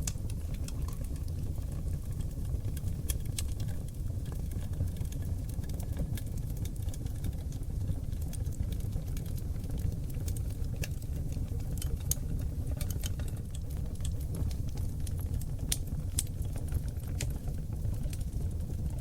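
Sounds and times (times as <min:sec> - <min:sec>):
wood fire burning with crackles: 0:00.0 - 0:19.0.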